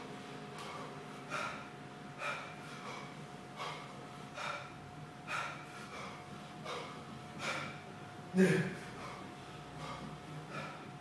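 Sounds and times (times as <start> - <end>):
man breathing hard: 0.6 - 11.0.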